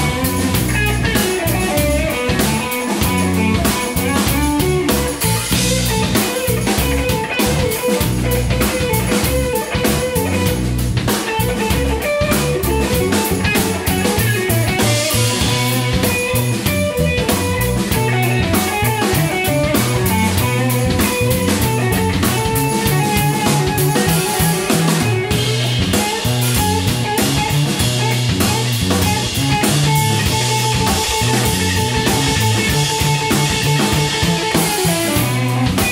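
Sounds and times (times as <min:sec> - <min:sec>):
drum kit: 0:00.0 - 0:35.9
electric guitar: 0:00.0 - 0:35.9.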